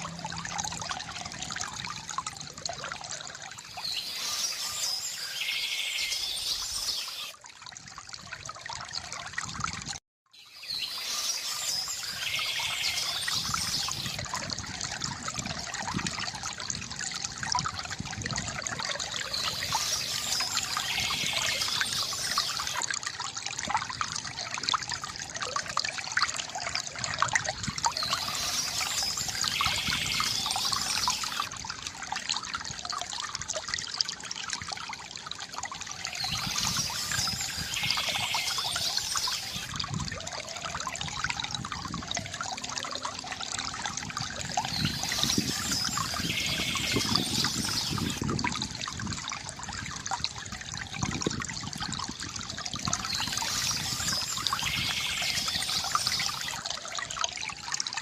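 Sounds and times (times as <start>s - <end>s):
water trickling from bamboo fountain: 0.0s - 58.0s.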